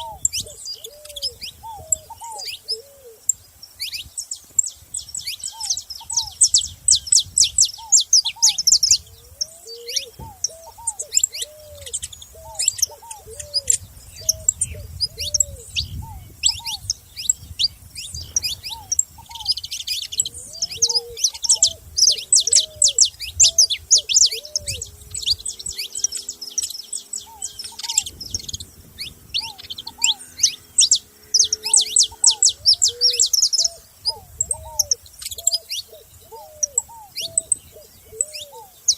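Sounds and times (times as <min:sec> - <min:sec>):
bird with lower arched calls: 0:00.0 - 0:38.9
finches chirping: 0:00.0 - 0:38.9.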